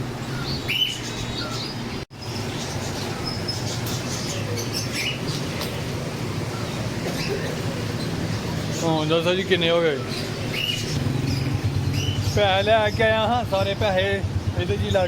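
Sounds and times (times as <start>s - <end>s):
background hum and murmur: 0.0s - 15.0s
caged birds chirping: 0.0s - 15.0s.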